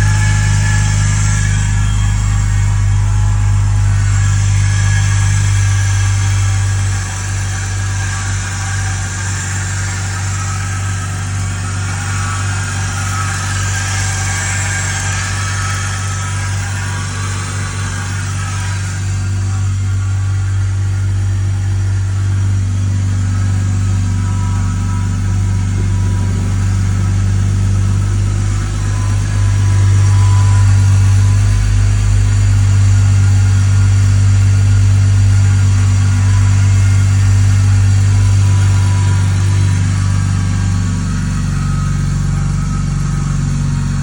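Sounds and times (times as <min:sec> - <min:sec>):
car engine running: 0:00.0 - 0:44.0
whining noise: 0:00.0 - 0:44.0.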